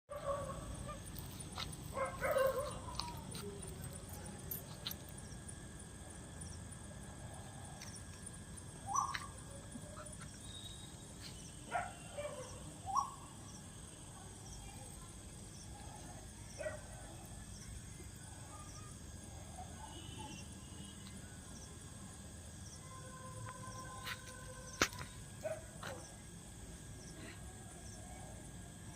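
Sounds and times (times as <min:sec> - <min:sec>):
faint high insect tick: 0:00.1 - 0:28.9.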